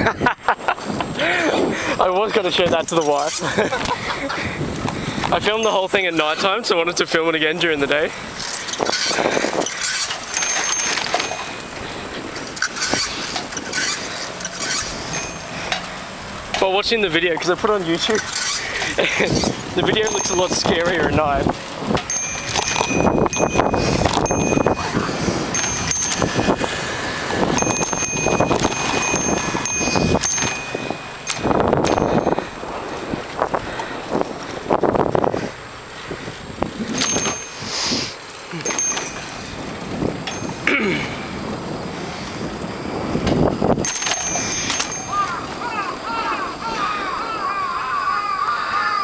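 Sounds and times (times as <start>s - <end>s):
bicycle riding on paved road: 0.0s - 49.0s
wind buffeting microphone: 0.0s - 49.0s
bike metallic clinks and rattles: 0.8s - 48.1s.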